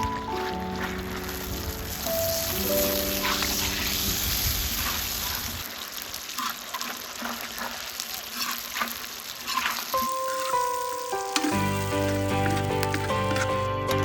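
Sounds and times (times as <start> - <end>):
food sizzling in oil: 0.0 - 13.6.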